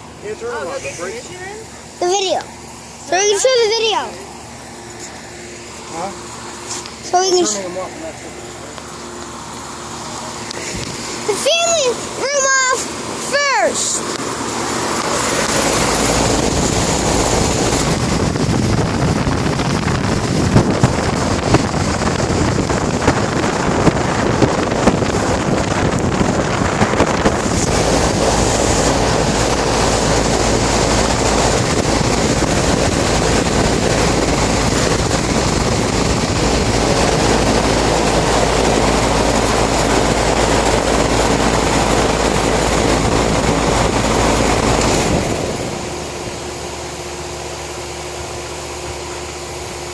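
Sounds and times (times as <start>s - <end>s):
air conditioner fan blowing: 0.0s - 49.9s.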